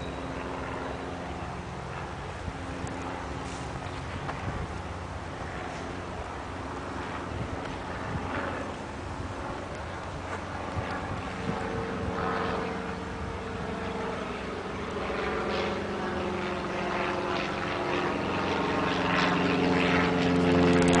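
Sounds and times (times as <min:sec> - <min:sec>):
aircraft engines droning overhead: 0:00.0 - 0:21.0.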